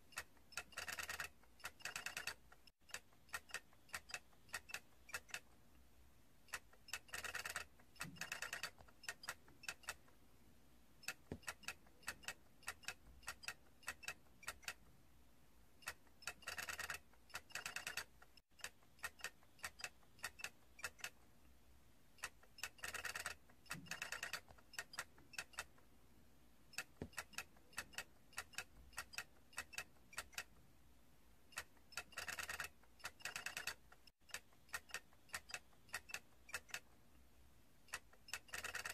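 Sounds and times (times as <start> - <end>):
plastic toy clicking: 0.1 - 5.6, 6.5 - 10.1, 11.0 - 14.8, 15.8 - 21.2, 22.2 - 25.8, 26.7 - 30.5, 31.5 - 36.9, 37.9 - 38.9.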